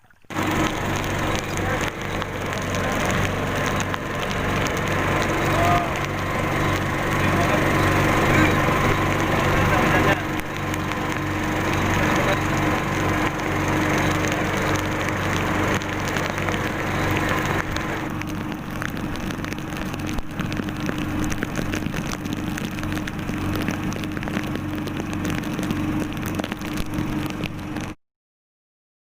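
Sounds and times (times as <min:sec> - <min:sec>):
heavy rain falling: 0:00.3 - 0:28.0
steady low hum: 0:00.3 - 0:28.0.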